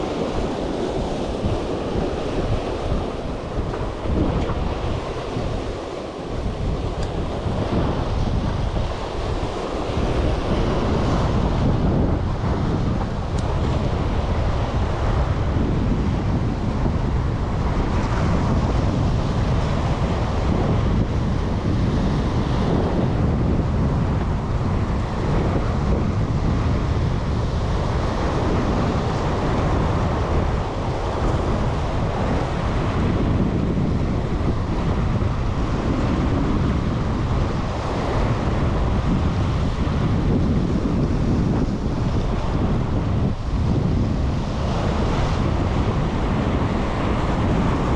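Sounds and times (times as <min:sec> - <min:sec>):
surf washing: 0:00.0 - 0:47.9
wind buffeting microphone: 0:00.0 - 0:47.9.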